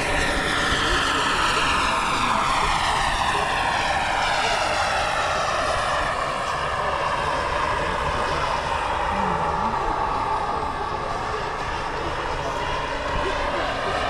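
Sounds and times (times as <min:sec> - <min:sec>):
model helicopter whine: 0:00.0 - 0:14.0.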